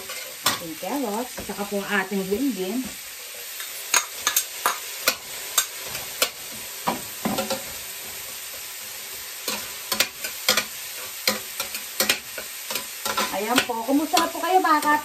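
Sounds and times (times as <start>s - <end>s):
metal turner scraping a pan: 0.0s - 0.7s, 3.4s - 15.0s
vegetables sizzling in a pan: 0.0s - 15.0s.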